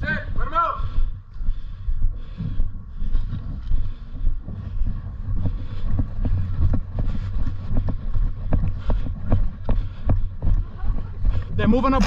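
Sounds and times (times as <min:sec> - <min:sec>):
regular thumps: 0:00.0 - 0:12.0
wind rumbling on microphone: 0:00.0 - 0:12.0.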